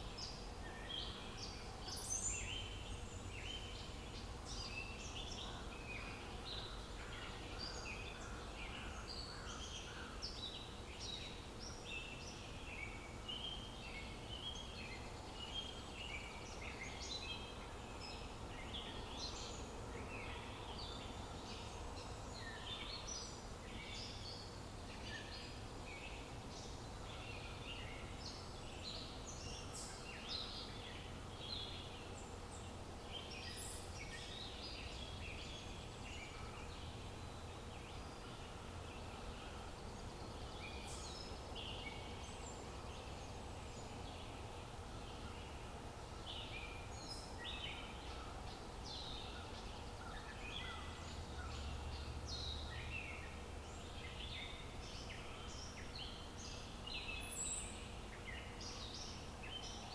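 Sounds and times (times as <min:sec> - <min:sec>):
outdoor background hiss: 0:00.0 - 0:59.9
small birds chirping: 0:00.0 - 0:59.9.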